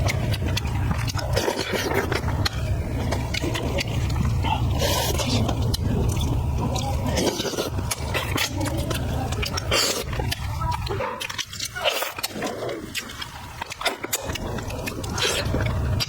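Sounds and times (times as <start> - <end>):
person chewing with wet smacking: 0.0 - 16.0
steady low hum: 0.0 - 16.0.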